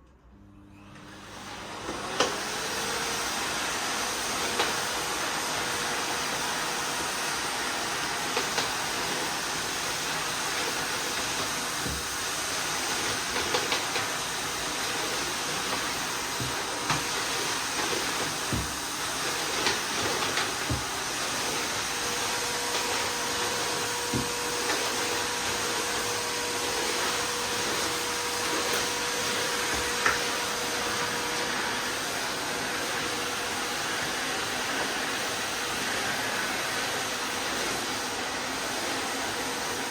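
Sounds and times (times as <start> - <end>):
vacuum cleaner running: 0.3 - 39.9.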